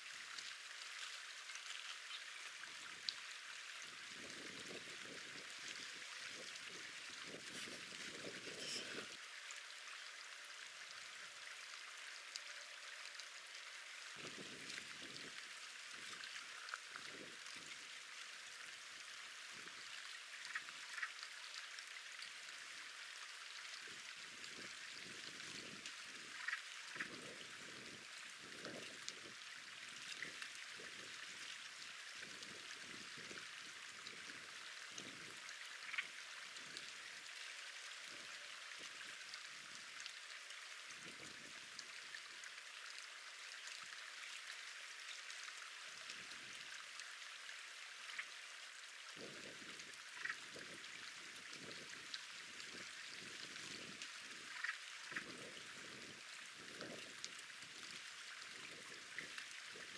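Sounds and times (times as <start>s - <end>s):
running water hiss: 0.0s - 59.9s.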